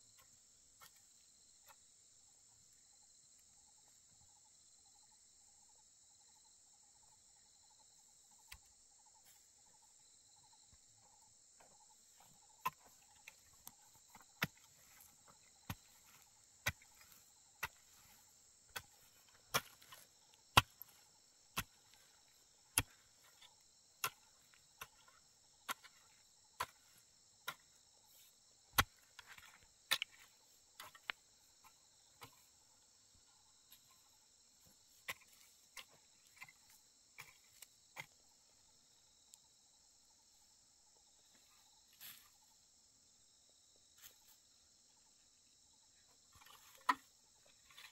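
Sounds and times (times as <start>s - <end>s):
crickets chirring: 0.0s - 47.9s.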